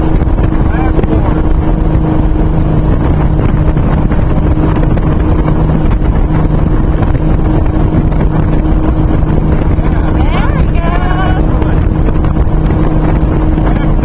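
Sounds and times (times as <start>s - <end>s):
boat engine hum: 0.0s - 14.0s
rushing water: 0.0s - 14.0s
wind noise on microphone: 0.0s - 14.0s.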